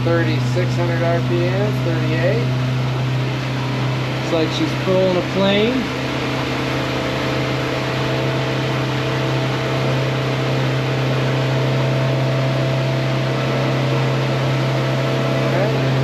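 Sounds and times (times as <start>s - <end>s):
outboard engine drone: 0.0s - 16.0s.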